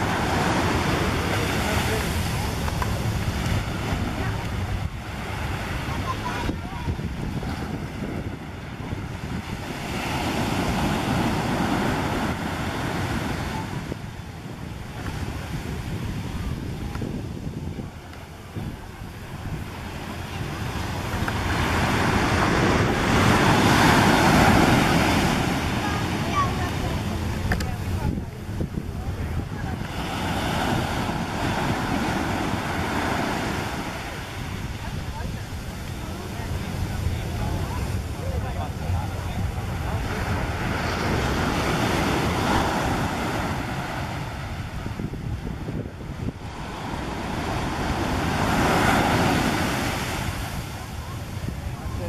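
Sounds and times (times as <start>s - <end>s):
ocean surf breaking: 0.0s - 52.0s
waves crashing on beach: 0.0s - 52.0s
wind buffeting microphone: 0.0s - 52.0s.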